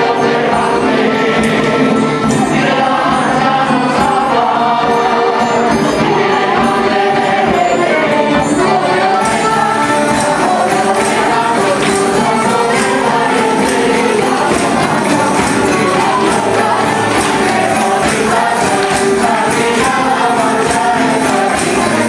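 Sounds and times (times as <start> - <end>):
men singing: 0.0 - 22.0
strummed guitars: 0.0 - 22.0
tambourine jingling: 0.0 - 22.0.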